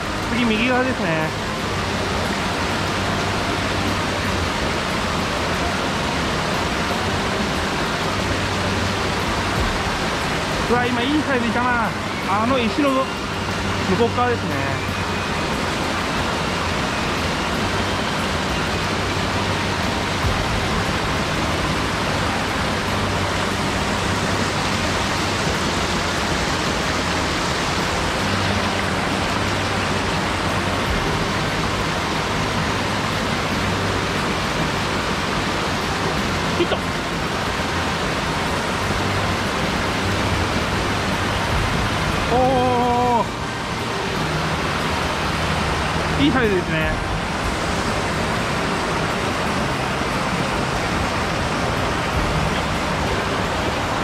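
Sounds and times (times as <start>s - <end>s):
stream water over rocks: 0.0s - 54.0s.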